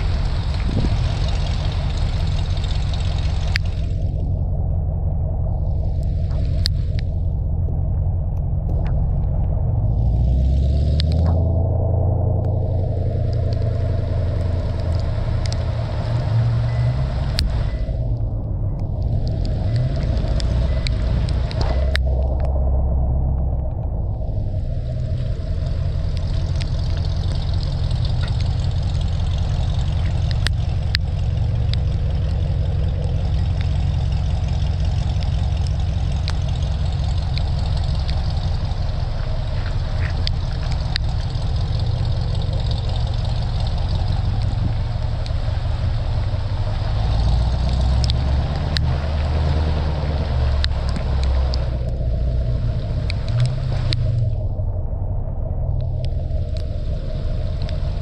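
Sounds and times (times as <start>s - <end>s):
raindrops ticking on camera: 0.0s - 4.4s, 5.5s - 11.5s, 12.4s - 54.6s, 55.6s - 58.0s
car engine and exhaust rumbling: 0.0s - 58.0s.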